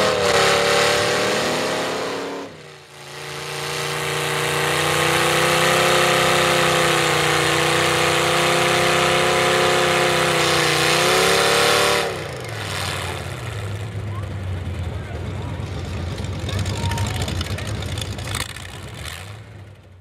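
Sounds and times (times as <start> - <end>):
truck engine revving high: 0.0 - 19.8
tires spinning in mud: 0.0 - 20.0.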